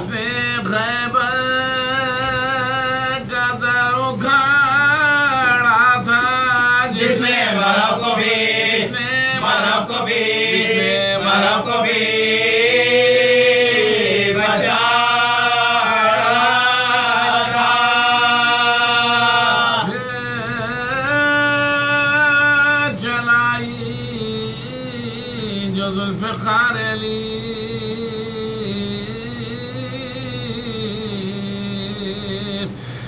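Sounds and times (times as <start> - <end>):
men chanting without instruments: 0.0 - 32.8.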